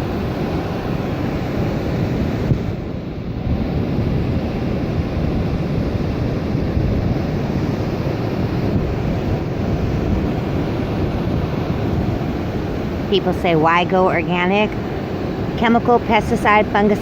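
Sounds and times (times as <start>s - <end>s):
ocean surf washing up beach: 0.0s - 17.0s
wind buffeting microphone: 0.0s - 17.0s.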